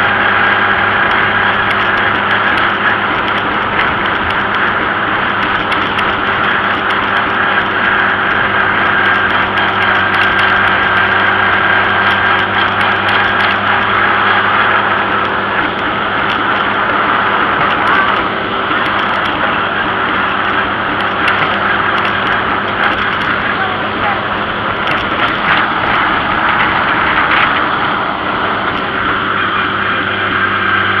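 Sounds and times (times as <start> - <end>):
tractor engine running: 0.0 - 31.0
tyres rushing on paved road: 0.0 - 31.0.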